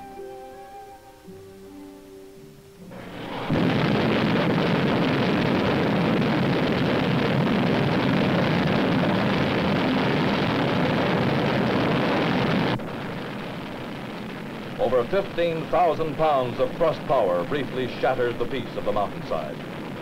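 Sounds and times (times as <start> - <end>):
rocket engine roaring: 2.9 - 20.0.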